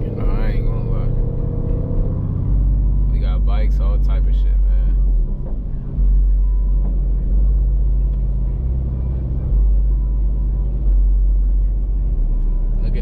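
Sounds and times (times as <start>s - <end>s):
car engine rumbling while driving: 0.0s - 13.0s.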